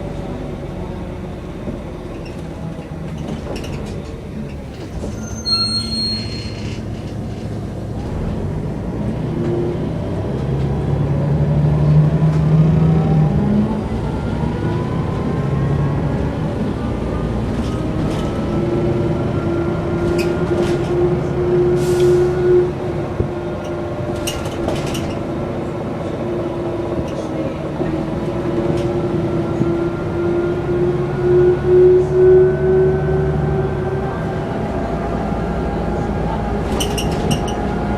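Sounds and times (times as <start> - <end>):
bus diesel engine: 0.0 - 37.9.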